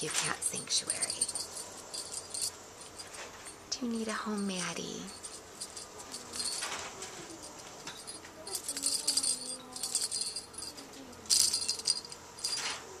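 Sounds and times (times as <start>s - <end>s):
small bell jingling: 0.0s - 13.0s.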